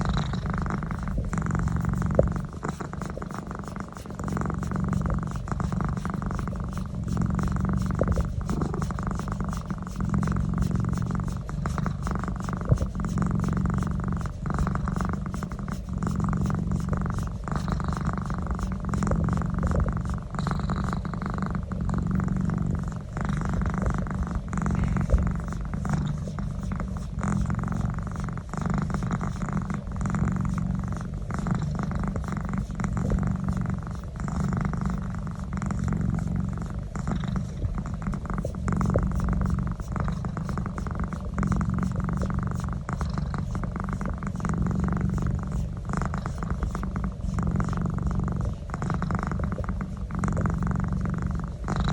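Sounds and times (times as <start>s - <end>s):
cat purring: 0.0s - 51.9s.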